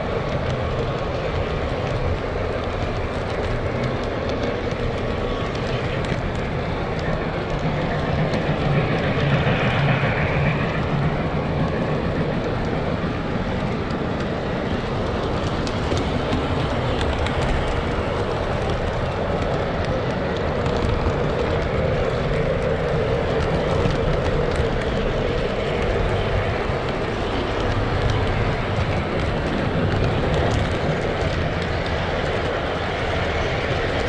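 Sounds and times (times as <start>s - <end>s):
model train running on rails: 0.0s - 34.0s.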